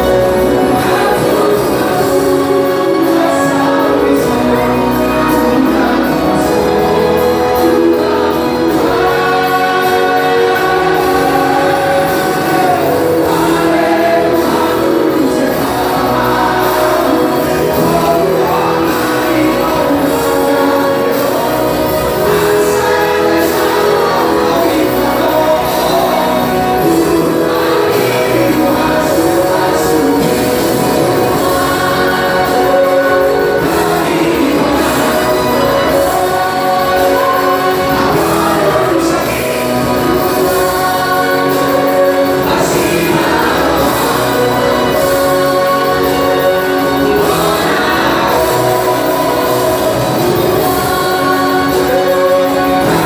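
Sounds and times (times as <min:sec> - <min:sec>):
choir singing gospel song: 0:00.0 - 0:53.0
instrumental accompaniment: 0:00.0 - 0:53.0.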